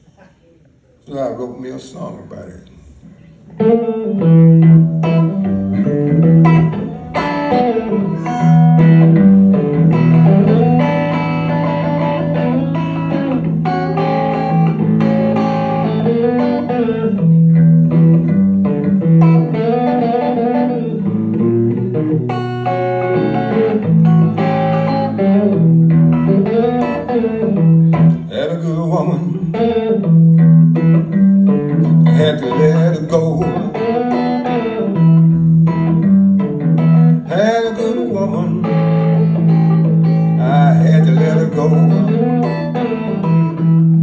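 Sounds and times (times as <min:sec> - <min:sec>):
blues guitar picking: 0:02.8 - 0:44.0.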